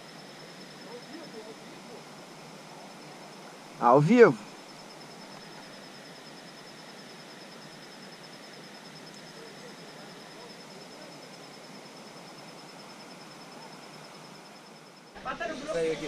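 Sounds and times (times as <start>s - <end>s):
insect pulsing trill: 0.0s - 15.2s.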